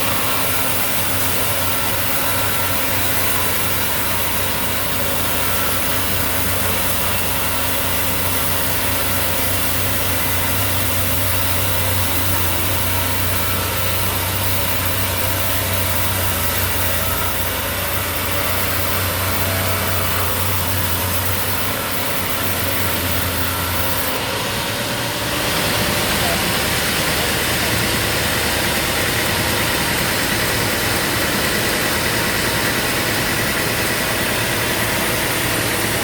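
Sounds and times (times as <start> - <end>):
engine humming: 0.0 - 36.0.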